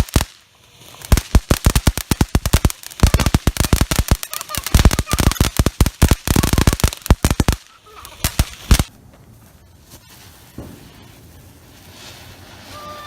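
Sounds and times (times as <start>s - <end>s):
fireworks cracking: 0.0s - 9.1s, 10.4s - 13.0s.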